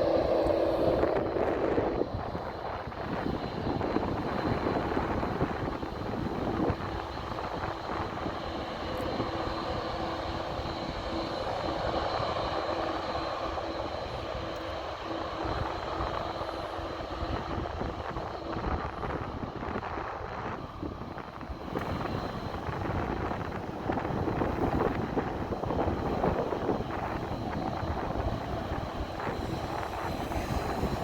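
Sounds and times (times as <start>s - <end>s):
jet engines rumbling: 0.0s - 31.0s
wind buffeting microphone: 0.0s - 31.0s.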